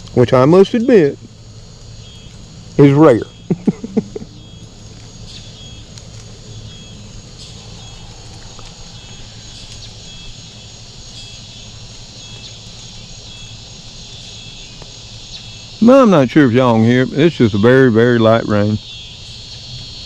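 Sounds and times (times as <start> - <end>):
insects chirping: 0.0 - 20.0
light rain falling: 0.0 - 20.0
steady low hum: 0.0 - 20.0.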